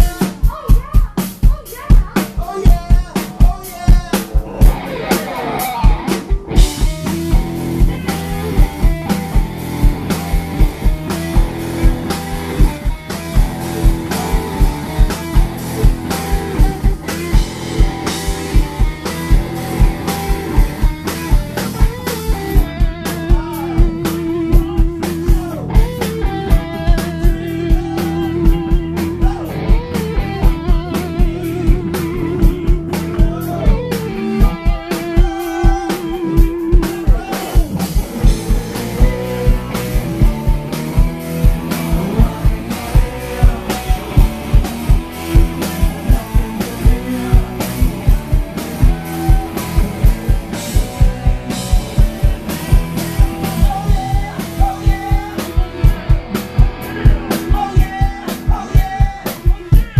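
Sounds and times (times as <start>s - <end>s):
bass guitar: 0.0s - 59.9s
drum kit beat: 0.0s - 59.9s
electric guitars: 0.0s - 59.9s.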